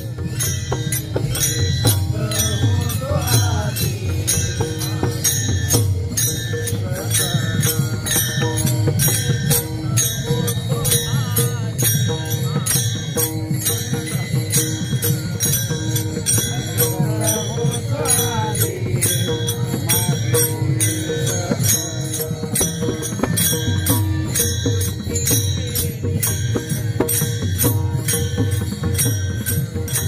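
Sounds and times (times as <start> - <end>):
hand cymbals striking: 0.0 - 30.0.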